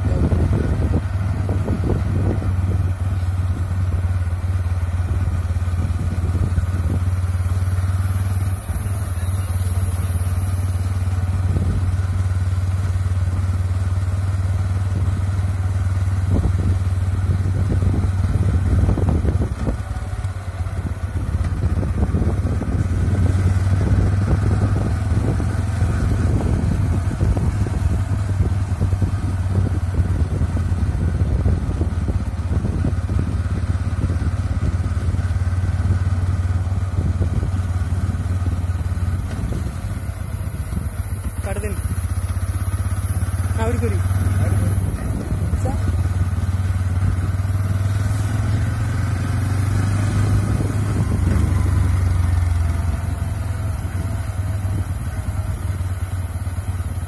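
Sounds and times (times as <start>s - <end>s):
wind rushing over microphone: 0.0s - 4.4s, 5.0s - 12.4s, 14.8s - 56.1s
motorcycle engine running: 0.0s - 57.0s.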